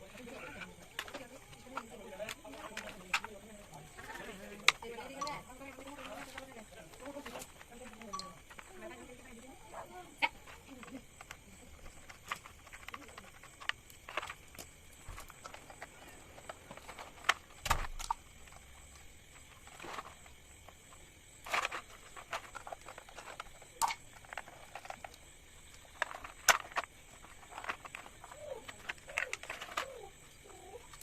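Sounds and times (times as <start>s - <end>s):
clicks and knocks of fan parts: 0.0s - 9.5s, 10.1s - 31.0s.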